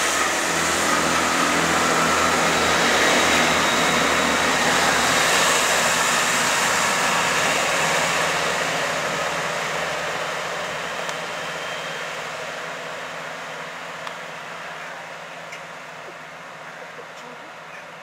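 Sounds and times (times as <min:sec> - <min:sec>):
diesel train running: 0:00.0 - 0:18.0.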